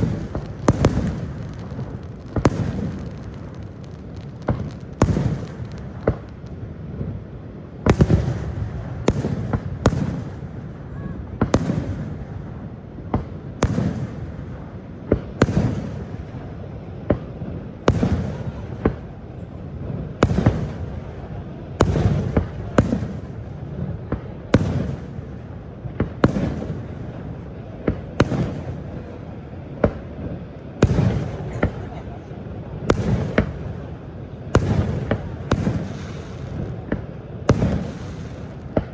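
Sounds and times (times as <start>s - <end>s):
fireworks exploding: 0.0s - 38.9s.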